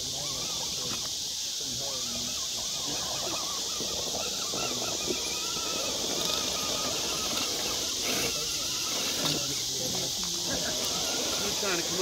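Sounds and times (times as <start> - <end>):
night insect chorus: 0.0 - 12.0.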